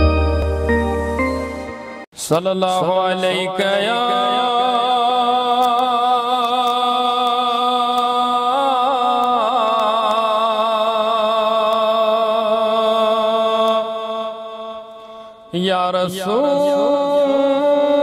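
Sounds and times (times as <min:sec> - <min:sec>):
man singing a long note: 0:02.2 - 0:18.0.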